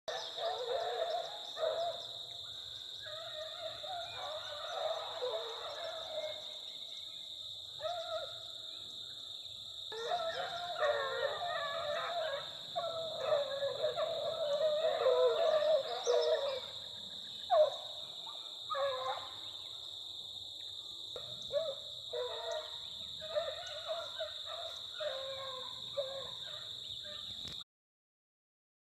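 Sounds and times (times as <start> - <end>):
hounds baying and howling: 0.1 - 7.0, 7.7 - 8.7, 9.9 - 20.0, 21.2 - 27.4.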